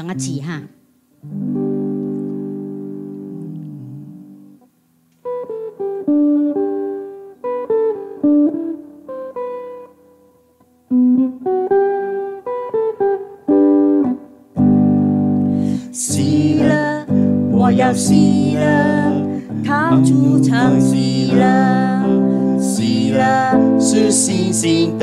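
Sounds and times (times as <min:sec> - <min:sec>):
guitar playing: 0:00.1 - 0:25.0.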